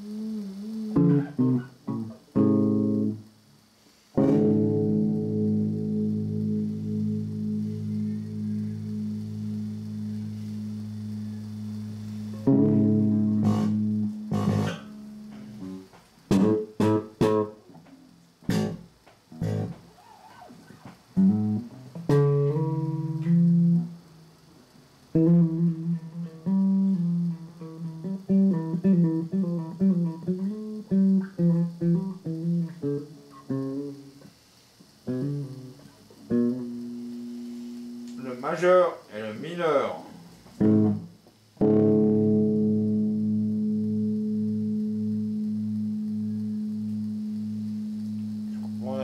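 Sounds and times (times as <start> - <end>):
solo guitar playing: 0.0 - 49.0.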